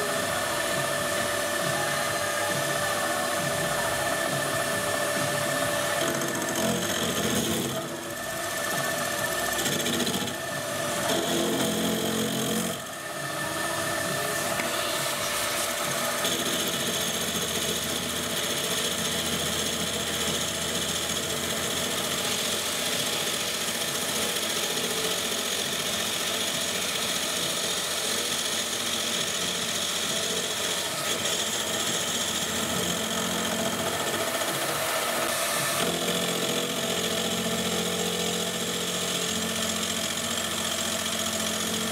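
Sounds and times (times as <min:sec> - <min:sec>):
milling machine cutting metal: 0:00.0 - 0:41.9.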